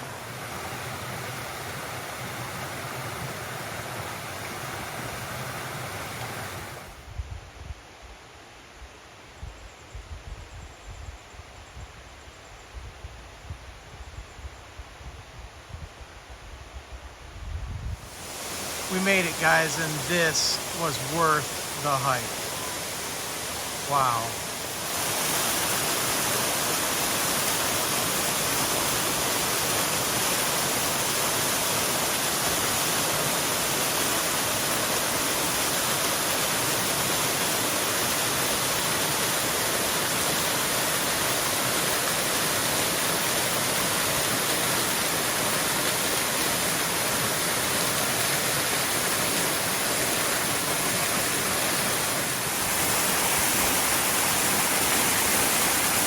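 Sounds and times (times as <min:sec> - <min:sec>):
waterfall rushing: 0:00.0 - 0:07.0, 0:18.0 - 0:56.0.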